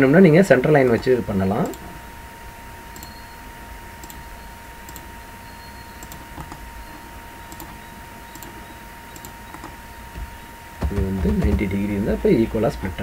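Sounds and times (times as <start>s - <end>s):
faint hum and hiss: 0.0s - 13.0s.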